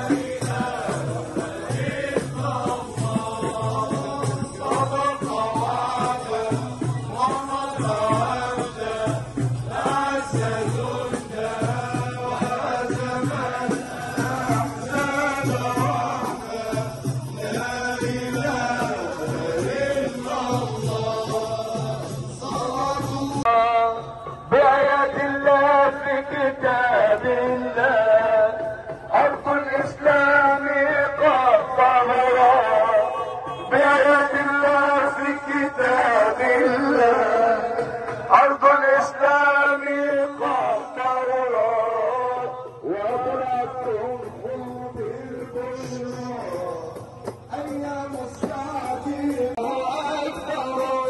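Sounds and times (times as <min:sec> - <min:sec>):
men chanting in a group: 0:00.0 - 0:51.0.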